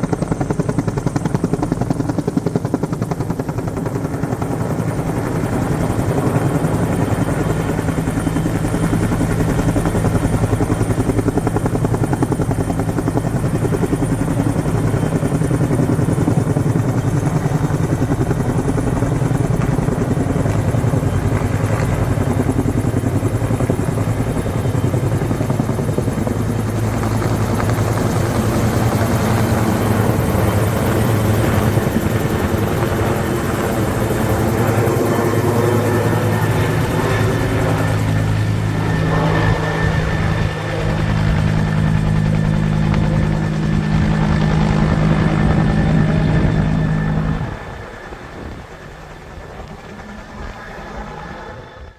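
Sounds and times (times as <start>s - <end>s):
helicopter engine whine: 0.0s - 51.9s
helicopter rotor beating: 0.0s - 51.9s.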